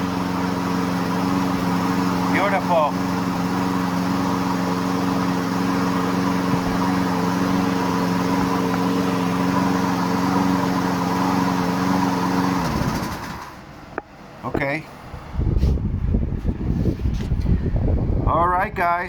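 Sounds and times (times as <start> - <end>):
lawn mower engine running: 0.0 - 15.4.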